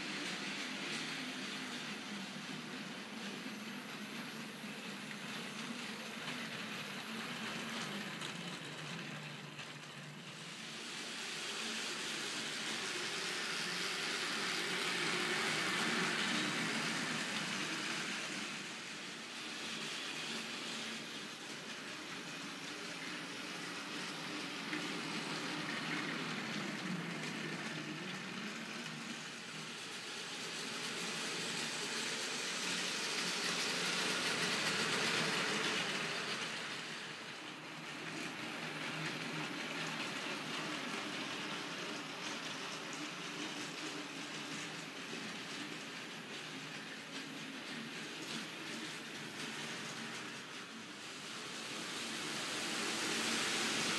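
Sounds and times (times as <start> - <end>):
toy trains whirring on plastic track: 0.0 - 53.9.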